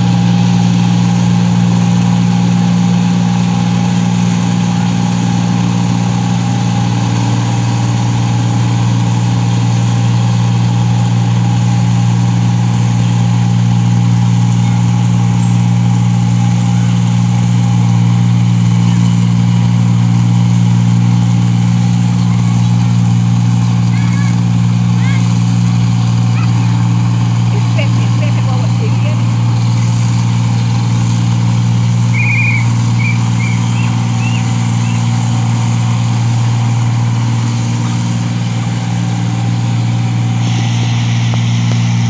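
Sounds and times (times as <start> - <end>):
harvester engine droning: 0.0 - 42.0
high machine whine: 0.0 - 42.0.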